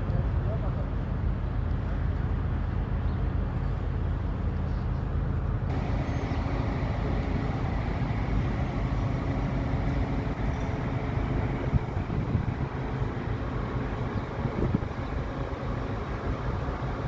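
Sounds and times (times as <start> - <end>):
vehicle engine rumbling: 0.1 - 17.0.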